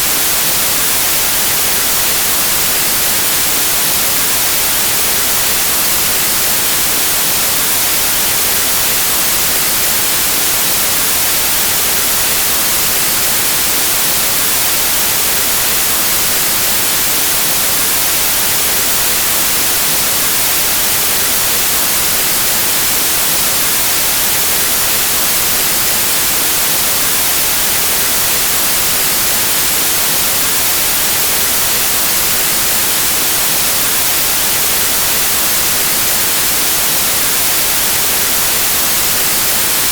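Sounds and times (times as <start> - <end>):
steady static hiss: 0.0 - 39.9.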